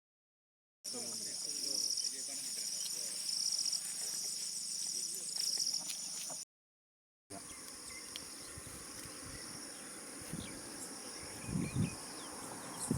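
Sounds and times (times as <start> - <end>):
insects chirping: 0.9 - 6.4, 7.3 - 12.9.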